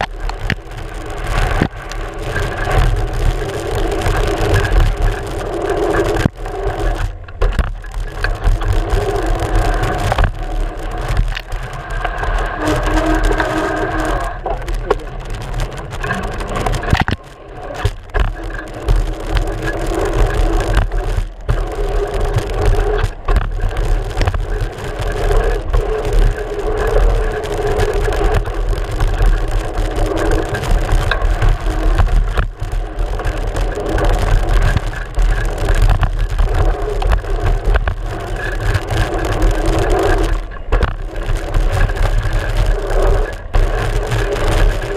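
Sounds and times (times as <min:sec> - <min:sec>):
bike knocking and rattling on bumps: 0:00.0 - 0:44.9
wind and tyre rumble: 0:00.0 - 0:44.9.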